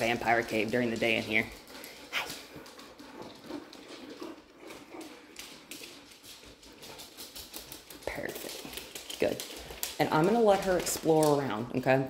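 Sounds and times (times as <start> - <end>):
dog claws clicking on hard floor: 0.0 - 11.8.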